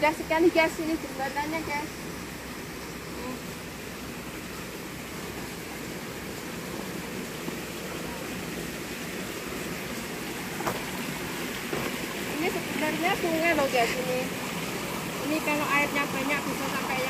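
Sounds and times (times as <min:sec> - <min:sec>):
shallow stream rushing: 0:00.0 - 0:17.0.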